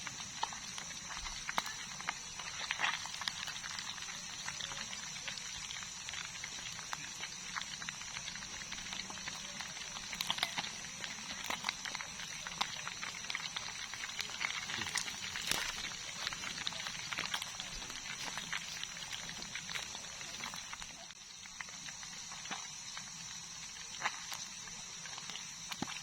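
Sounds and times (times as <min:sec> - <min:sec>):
night insects droning: 0:00.0 - 0:26.0
crackling clicks: 0:00.1 - 0:26.0.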